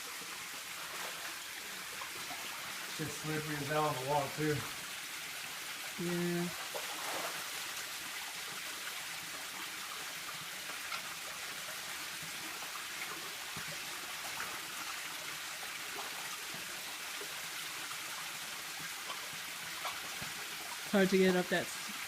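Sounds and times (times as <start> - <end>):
small waterfall splashing: 0.0 - 22.0.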